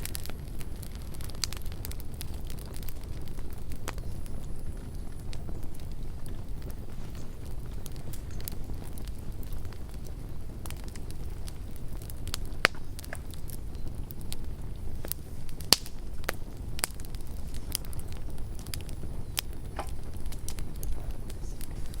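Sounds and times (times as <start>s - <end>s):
campfire rumble: 0.0s - 22.0s
fire crackles and pops: 0.0s - 22.0s.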